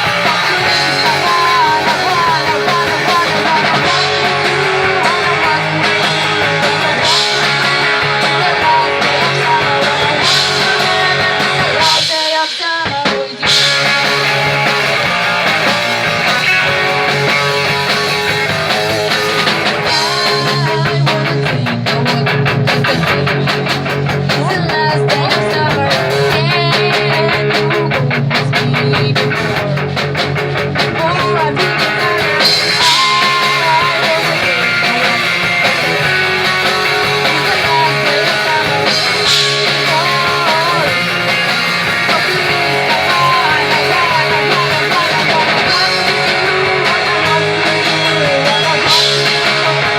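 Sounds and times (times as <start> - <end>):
drums fast beat: 0.0 - 49.9
punk rock band playing live: 0.0 - 49.9.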